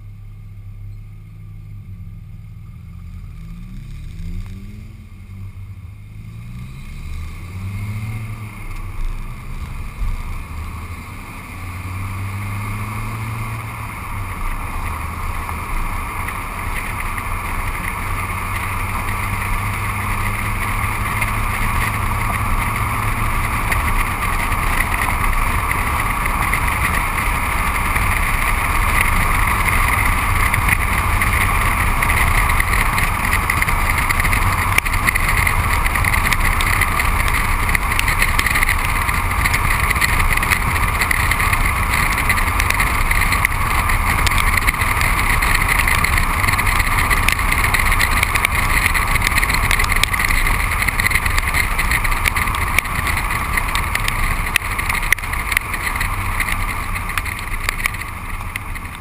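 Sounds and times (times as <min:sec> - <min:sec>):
tyre on wet road: 0:00.0 - 0:59.0.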